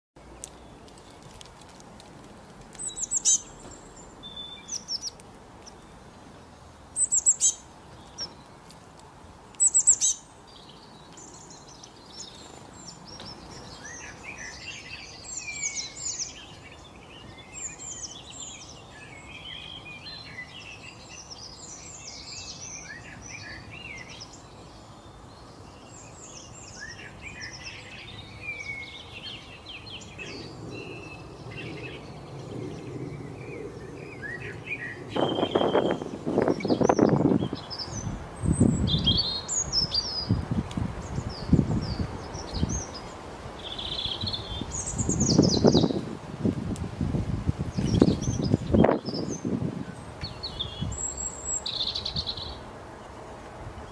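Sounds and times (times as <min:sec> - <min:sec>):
songbirds chirping and trilling: 0:00.2 - 0:53.9.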